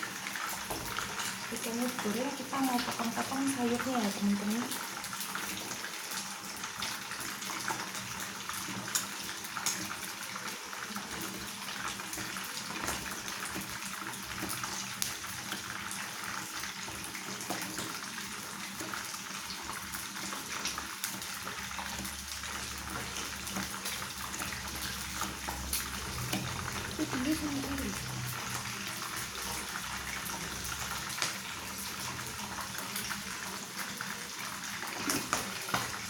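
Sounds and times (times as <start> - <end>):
fish deep-frying in oil: 0.0 - 36.0.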